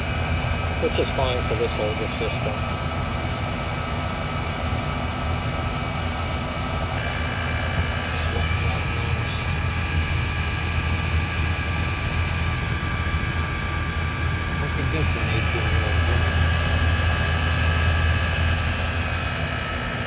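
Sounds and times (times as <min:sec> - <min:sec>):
heat pump low hum: 0:00.0 - 0:20.0.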